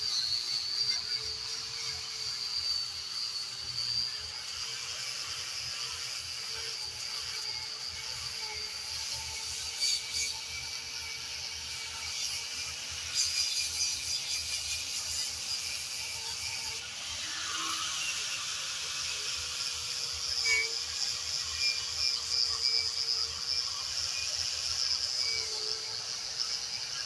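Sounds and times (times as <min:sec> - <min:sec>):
grinder motor whine: 0:00.0 - 0:27.0.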